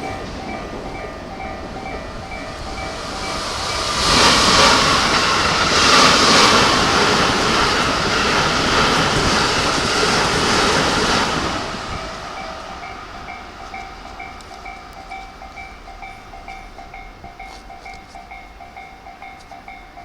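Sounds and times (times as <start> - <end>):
crossing warning bell dinging: 0.0 - 20.0
train wheel-on-rail noise: 0.0 - 20.0.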